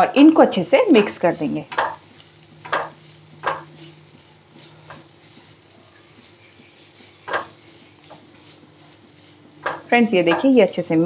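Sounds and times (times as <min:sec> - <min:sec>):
faint steady hum: 0:00.0 - 0:11.0
spatula scraping vegetables in pan: 0:00.7 - 0:11.0.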